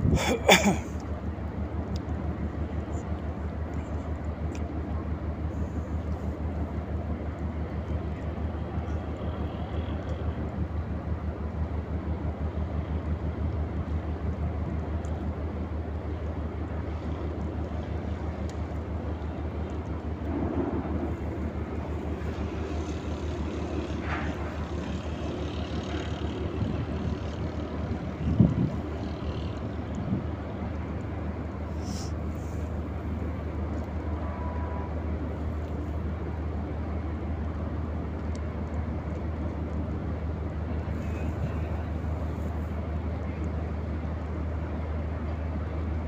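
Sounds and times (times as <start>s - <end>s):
diesel engine throbbing: 1.2s - 45.9s.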